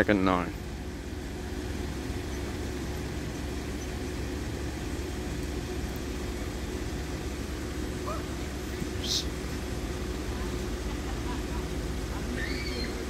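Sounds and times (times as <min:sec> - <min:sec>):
faint even hum: 0:00.0 - 0:13.0
vehicles idling: 0:00.0 - 0:13.0.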